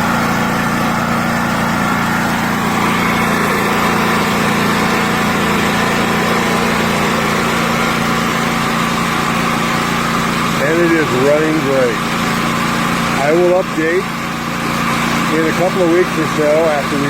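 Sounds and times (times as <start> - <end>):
portable generator running: 0.0 - 17.0.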